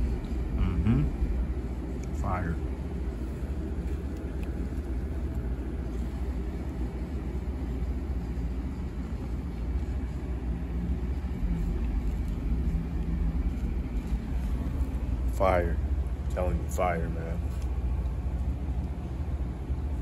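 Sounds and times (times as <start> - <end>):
faint hum: 0.0 - 20.0
low background rumble: 0.0 - 20.0.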